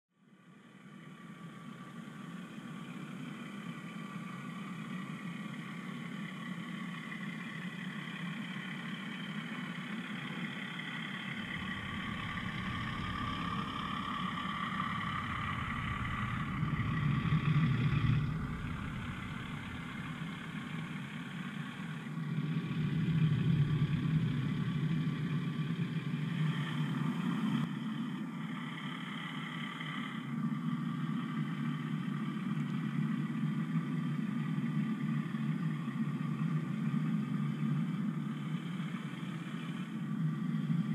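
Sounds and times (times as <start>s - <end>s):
model locomotive motor drone: 0.5s - 40.9s
wheels rumbling on track: 0.5s - 40.9s.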